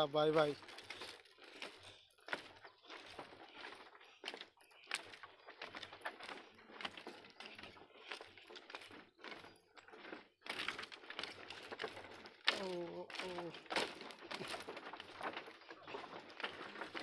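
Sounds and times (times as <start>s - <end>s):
footsteps on rattling bamboo bridge: 0.0s - 17.0s.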